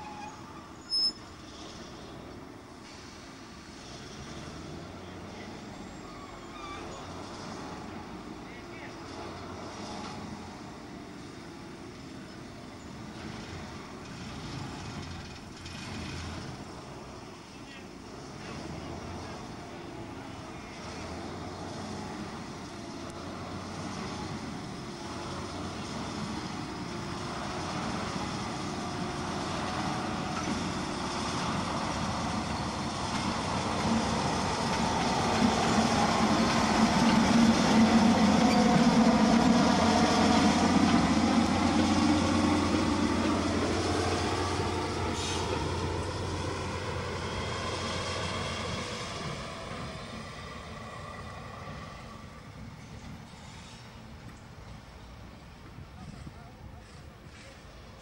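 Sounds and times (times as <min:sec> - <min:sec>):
diesel locomotive passing: 0:00.0 - 0:58.0.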